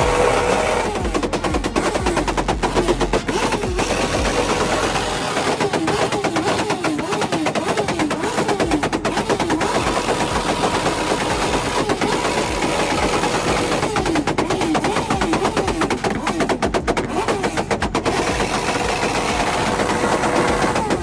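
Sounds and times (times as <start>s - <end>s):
car engine revving: 0.0s - 21.0s
exhaust crackling pops: 0.0s - 21.0s.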